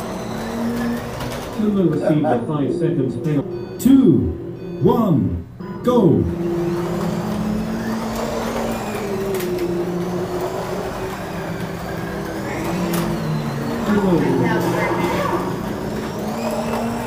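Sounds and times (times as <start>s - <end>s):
race car engine drone: 0.0s - 17.0s.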